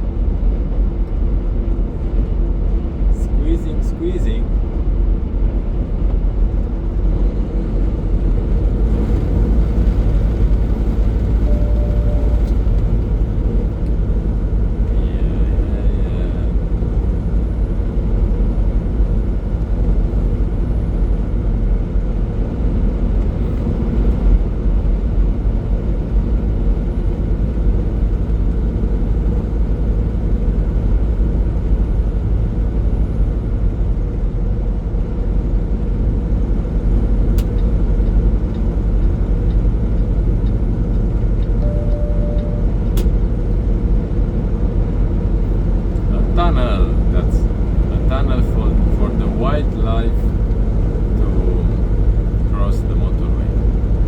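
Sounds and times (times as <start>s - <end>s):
diesel truck engine drone: 0.0s - 54.0s
road noise: 0.0s - 54.0s.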